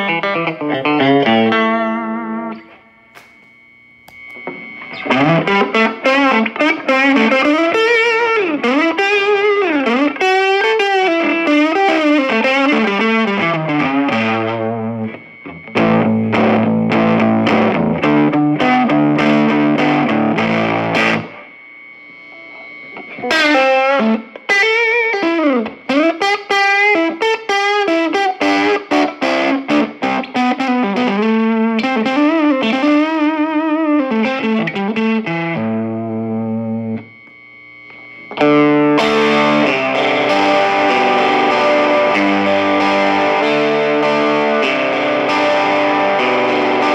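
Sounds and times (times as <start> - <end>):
overdriven electric guitar: 0.0 - 46.9.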